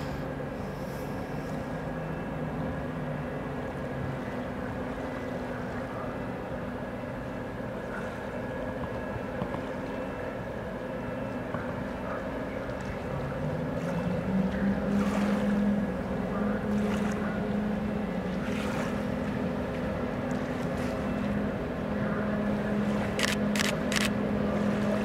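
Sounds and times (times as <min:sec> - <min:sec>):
ferry engine droning: 0:00.0 - 0:25.0.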